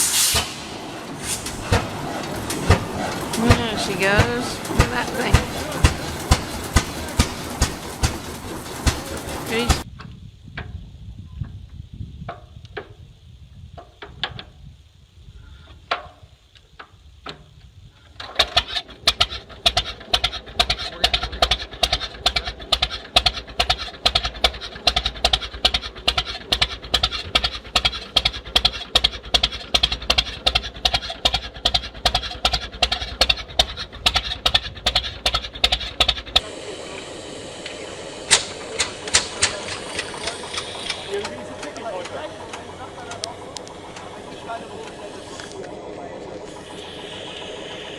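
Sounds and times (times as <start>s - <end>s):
old tractor engine running: 0.0s - 9.9s, 18.0s - 47.9s.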